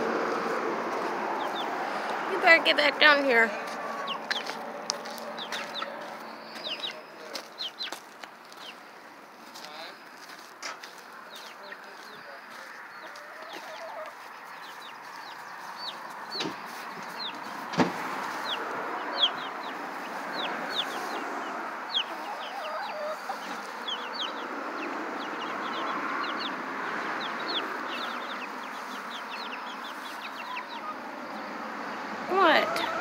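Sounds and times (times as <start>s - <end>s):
baby chicks peeping: 0.9s - 33.0s.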